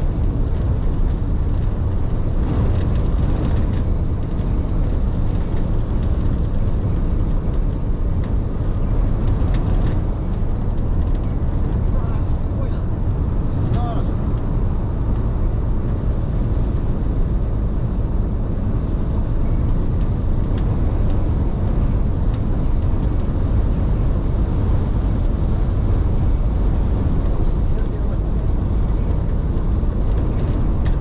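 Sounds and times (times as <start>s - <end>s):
truck driving rumble from cab: 0.0s - 31.0s.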